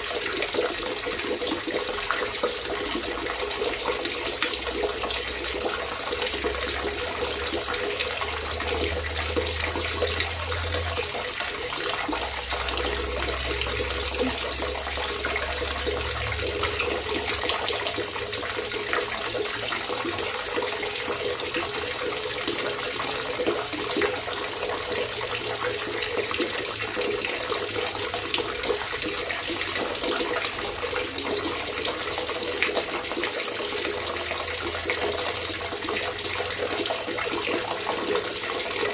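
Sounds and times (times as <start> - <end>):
water gurgling and trickling: 0.0 - 38.9.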